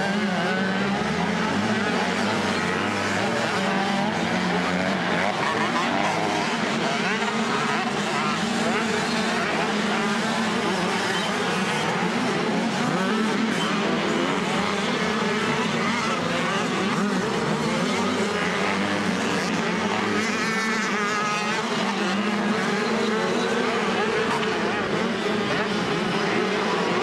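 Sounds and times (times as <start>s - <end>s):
motocross bikes racing: 0.0s - 27.0s.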